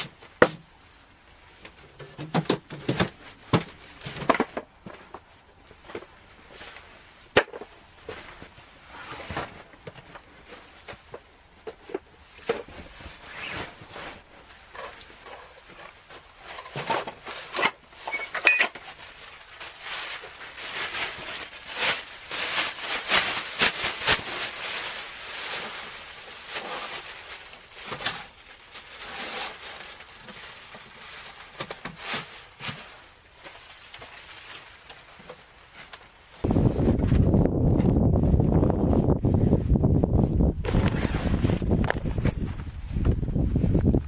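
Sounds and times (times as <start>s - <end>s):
rustling: 0.0s - 44.0s.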